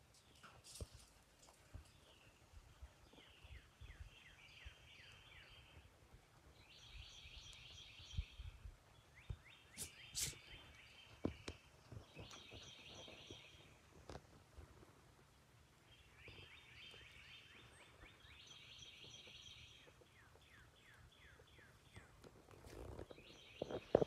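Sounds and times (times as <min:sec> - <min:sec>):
faint bird song trills: 0:01.8 - 0:13.9, 0:15.8 - 0:24.0.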